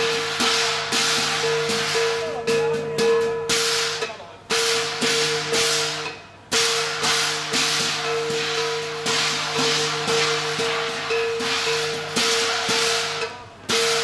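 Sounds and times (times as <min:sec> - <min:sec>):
cymbals crashing: 0:00.0 - 0:14.0
gong ringing: 0:00.0 - 0:14.0.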